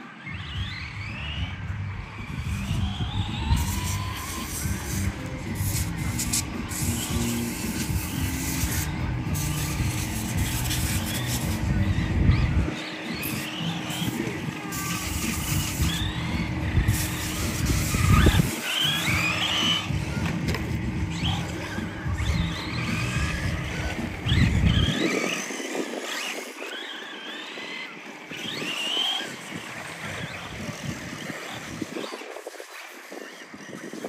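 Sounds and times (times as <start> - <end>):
rc car motors whining: 0.0 - 34.0.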